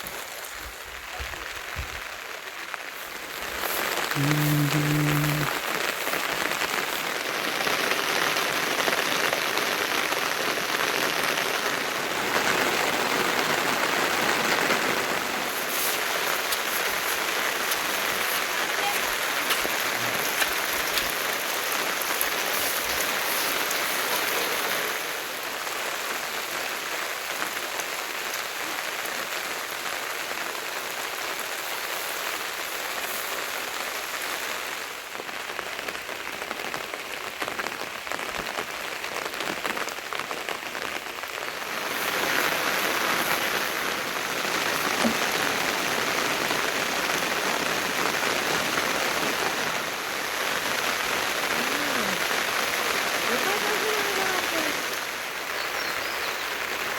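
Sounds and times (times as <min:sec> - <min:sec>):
rain hitting surfaces: 0:00.0 - 0:56.9.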